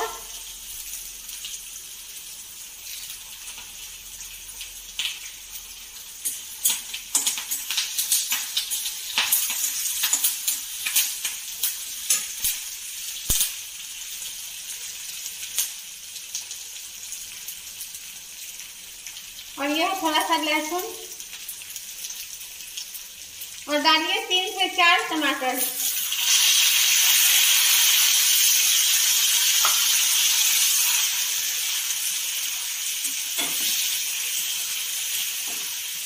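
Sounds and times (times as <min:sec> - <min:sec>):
leaves sizzling in hot oil: 0:00.0 - 0:36.0.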